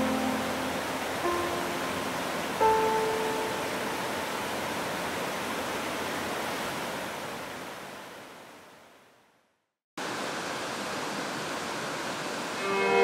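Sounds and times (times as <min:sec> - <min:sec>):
stream rushing over rocks: 0:00.0 - 0:09.0, 0:10.0 - 0:13.0.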